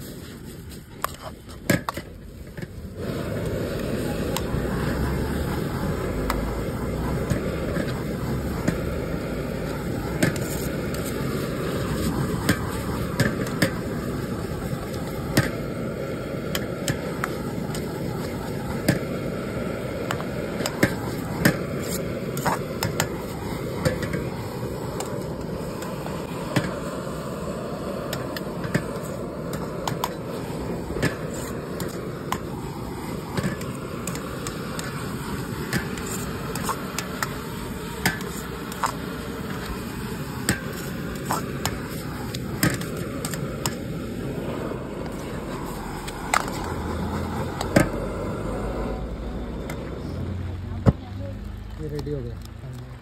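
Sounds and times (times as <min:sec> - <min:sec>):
gas burner rushing: 0:00.0 - 0:53.0.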